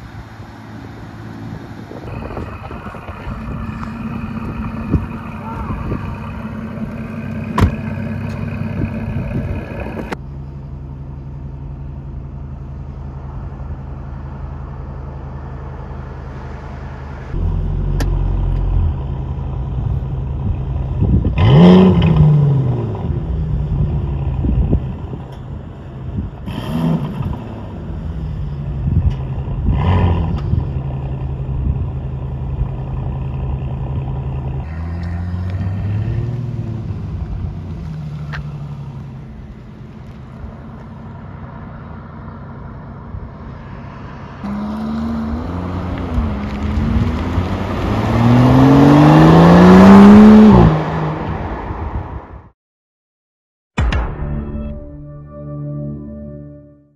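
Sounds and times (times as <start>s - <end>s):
car engine idling and revving: 0.0s - 52.5s.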